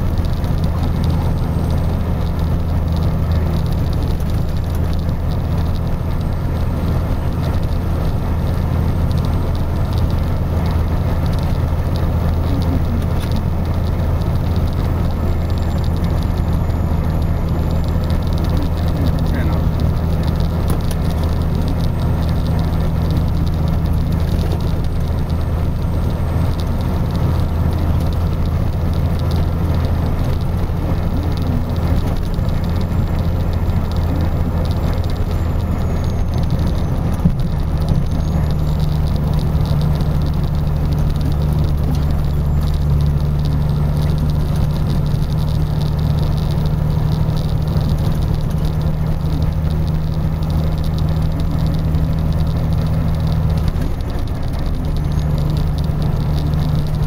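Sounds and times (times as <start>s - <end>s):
car engine hum from inside cabin: 0.0s - 57.0s
tyre and road rumble on snow: 0.0s - 57.0s.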